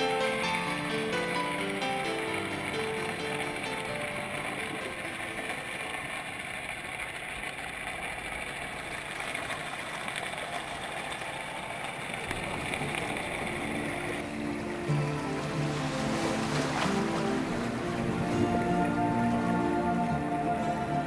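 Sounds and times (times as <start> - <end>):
boat engine drone underwater: 0.0 - 21.0
underwater noise: 0.0 - 21.0.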